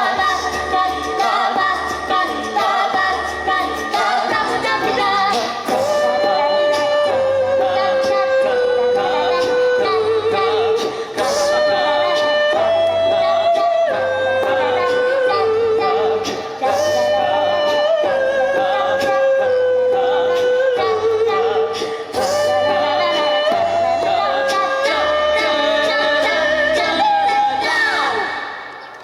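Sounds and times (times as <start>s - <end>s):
small choir singing: 0.0s - 28.8s.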